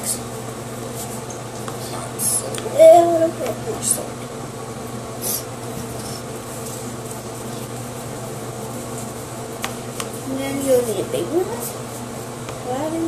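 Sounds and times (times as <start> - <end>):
room fan humming: 0.0 - 13.0.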